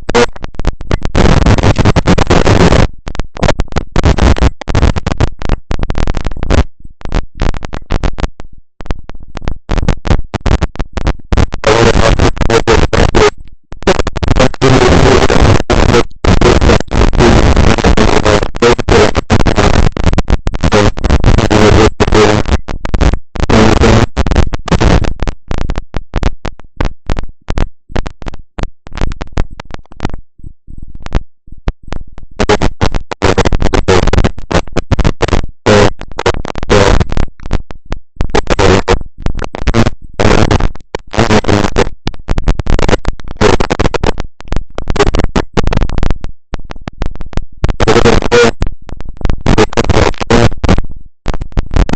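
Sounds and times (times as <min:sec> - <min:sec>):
crackling microphone static: 0:00.0 - 0:51.9.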